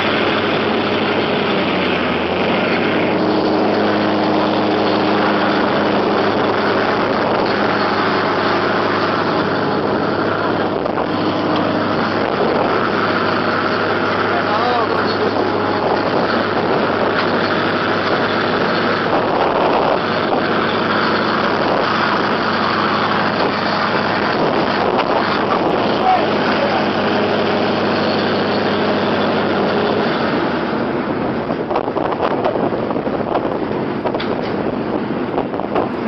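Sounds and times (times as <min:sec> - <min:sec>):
engine running with low hum: 0:00.0 - 0:36.0
gusty wind noise: 0:00.0 - 0:36.0.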